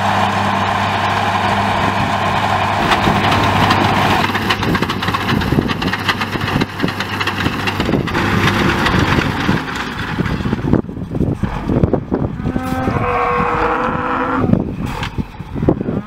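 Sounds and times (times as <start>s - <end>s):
machinery noise: 0.0s - 16.0s
tractor diesel engine running: 0.0s - 16.0s.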